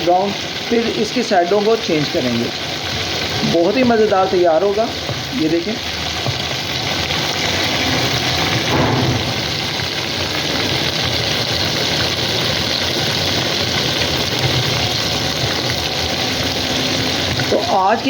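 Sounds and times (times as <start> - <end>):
chicken sizzling in hot fat: 0.0 - 18.0.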